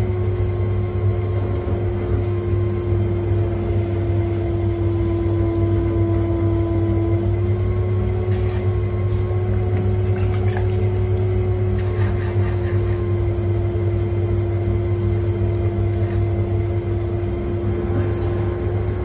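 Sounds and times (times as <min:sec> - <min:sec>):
potter's wheel motor humming: 0:00.0 - 0:19.0.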